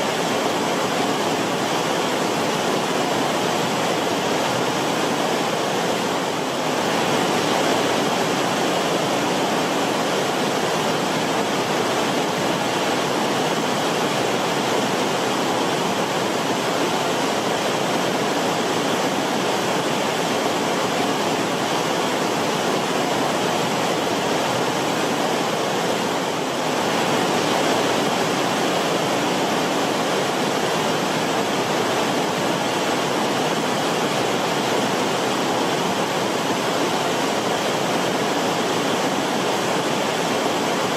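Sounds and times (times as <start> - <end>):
creek water flowing over rocks: 0.0 - 40.9.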